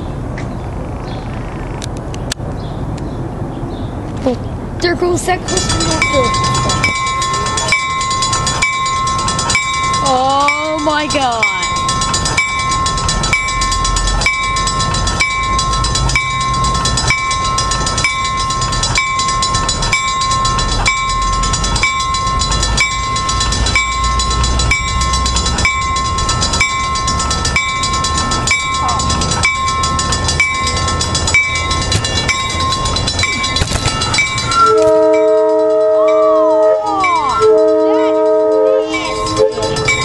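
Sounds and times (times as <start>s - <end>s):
low rumble of train equipment: 0.0s - 40.0s
railroad crossing bell ringing: 4.8s - 40.0s.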